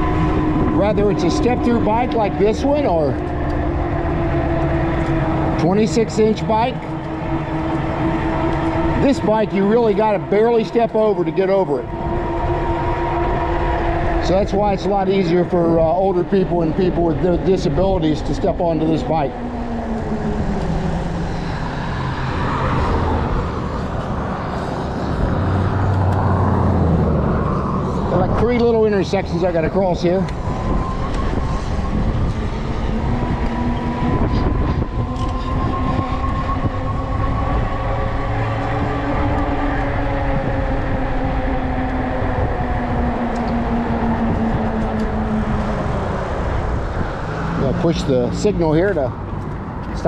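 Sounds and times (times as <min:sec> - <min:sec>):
motor vehicle drone: 0:00.0 - 0:50.0
rushing noise while riding: 0:00.0 - 0:50.0
wind and tyre rumble: 0:00.0 - 0:50.0.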